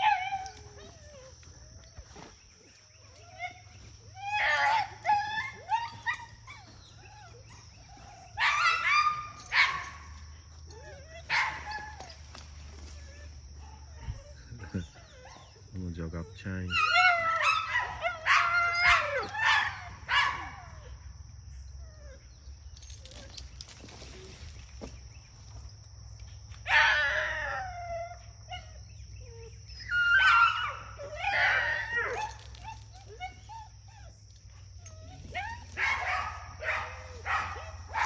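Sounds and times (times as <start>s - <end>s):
dog whining and yelping: 0.0s - 15.7s, 16.7s - 25.0s, 26.7s - 38.0s.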